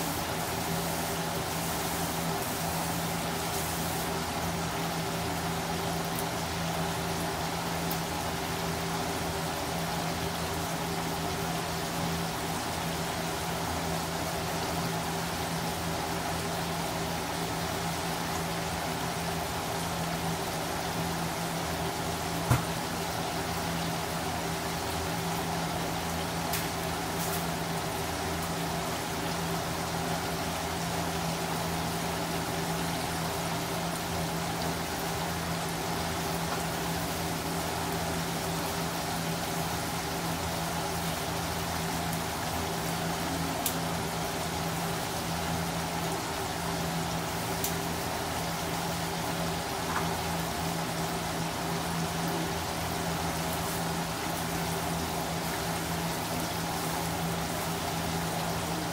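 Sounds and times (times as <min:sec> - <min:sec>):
oil sizzling and bubbling: 0:00.0 - 0:58.9.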